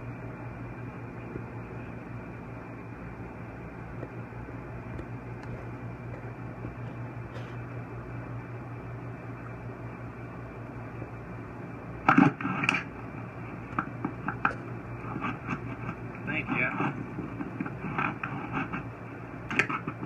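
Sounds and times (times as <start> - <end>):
steady low hum and hiss: 0.0 - 20.0.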